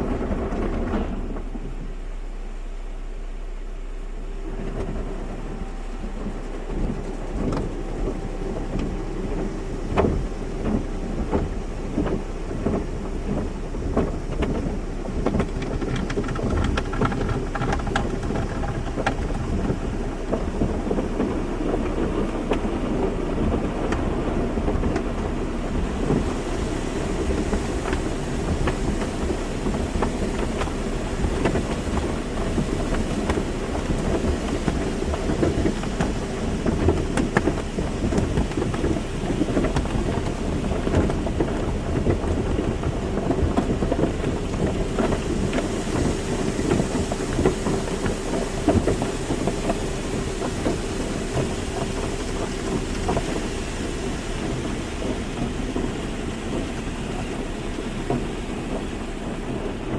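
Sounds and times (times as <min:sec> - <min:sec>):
low steady hum: 0:00.0 - 0:59.9
water spray drumming on car: 0:00.0 - 0:59.9
irregular knocks and patters: 0:04.5 - 0:59.9.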